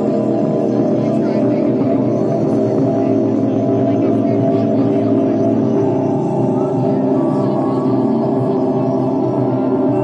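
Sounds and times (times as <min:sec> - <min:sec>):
dense noise music drone: 0:00.0 - 0:10.0.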